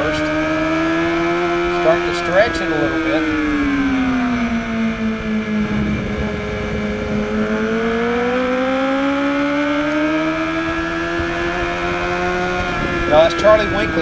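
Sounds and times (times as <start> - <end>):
motorcycle engine accelerating hard: 0.0 - 14.0.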